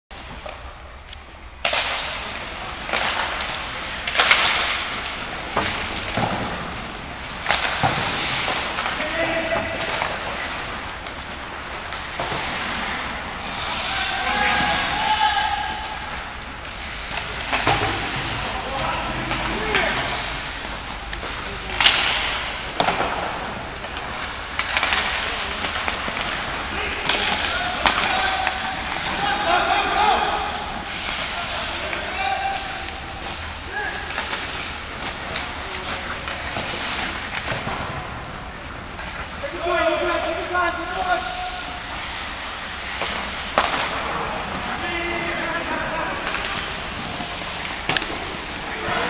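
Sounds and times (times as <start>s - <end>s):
hockey sticks and puck clacking: 0.2s - 49.0s
skates scraping on ice: 0.2s - 49.0s.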